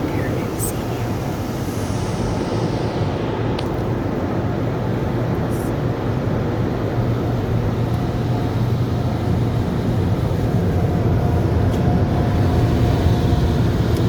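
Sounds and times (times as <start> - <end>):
car wash running: 0.0 - 14.0.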